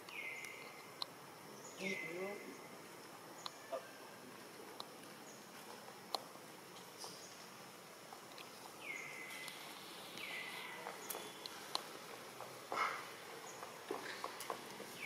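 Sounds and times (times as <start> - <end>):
rustle: 0.0 - 15.0.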